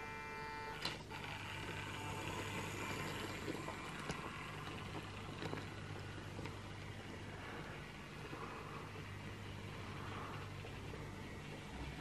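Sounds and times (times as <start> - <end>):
model locomotive motor whirring: 0.0 - 12.0
thin whine: 0.0 - 12.0
wheels ticking on track: 0.0 - 12.0.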